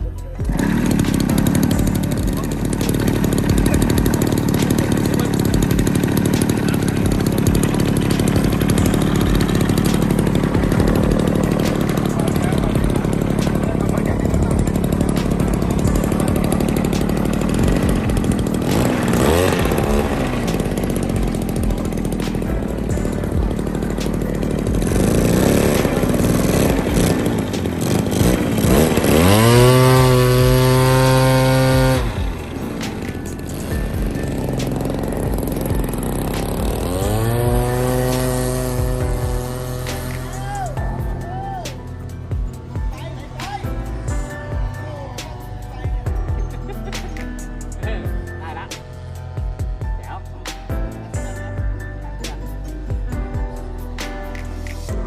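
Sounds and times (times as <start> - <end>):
small two-stroke engine buzzing: 0.0 - 53.5.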